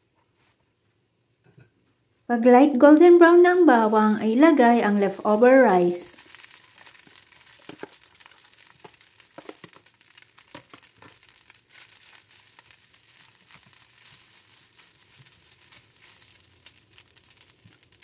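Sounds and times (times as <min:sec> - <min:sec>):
faint sizzle: 0:02.3 - 0:18.0.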